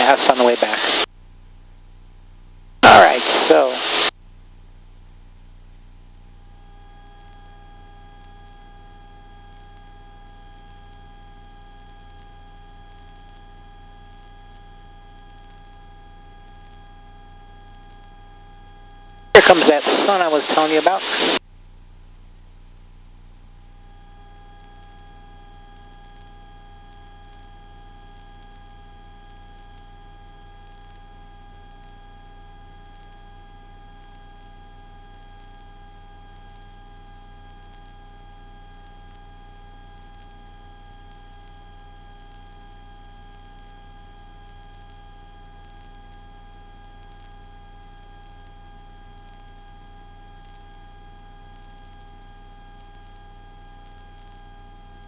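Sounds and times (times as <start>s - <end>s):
aircraft cockpit drone with whine: 0.0s - 1.1s, 2.8s - 4.2s, 5.9s - 21.4s, 22.7s - 55.0s.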